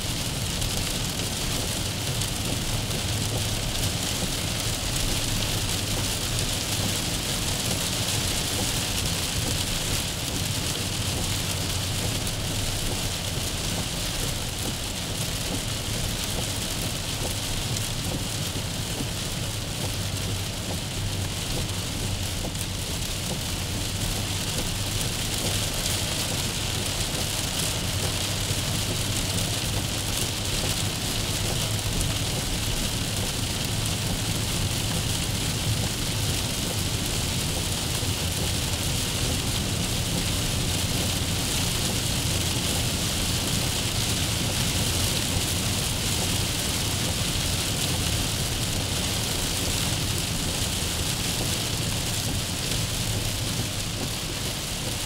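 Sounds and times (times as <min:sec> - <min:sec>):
heavy rain on car windscreen: 0:00.0 - 0:55.0.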